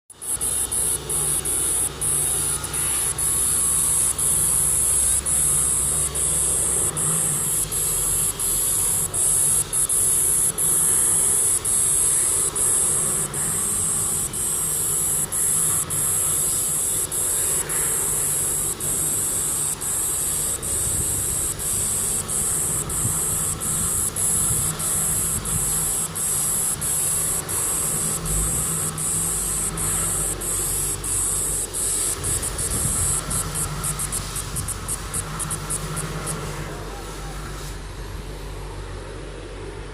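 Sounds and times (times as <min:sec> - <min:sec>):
high-pitched insect buzzing: 0:00.1 - 0:36.5.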